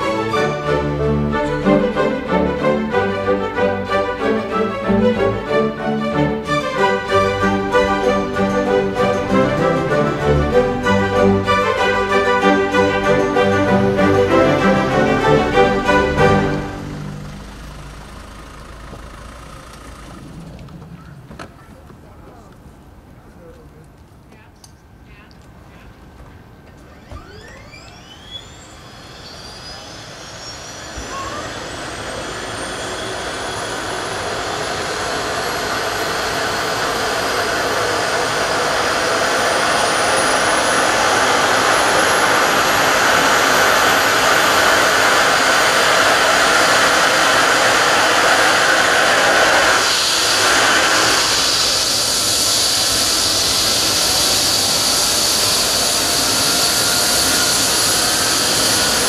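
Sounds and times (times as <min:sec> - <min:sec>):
helicopter turbine whine: 0:00.0 - 0:21.4, 0:26.5 - 0:59.0.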